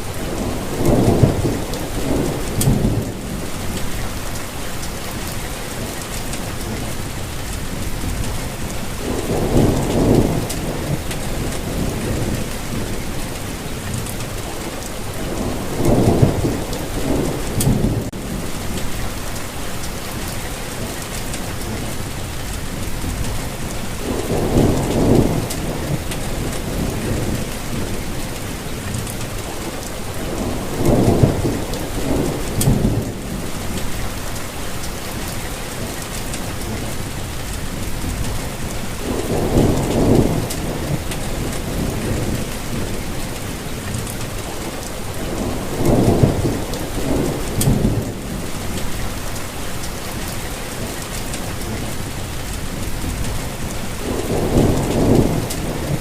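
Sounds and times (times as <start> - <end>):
steady rainfall: 0.0 - 56.0
thunder rumbles: 0.0 - 56.0.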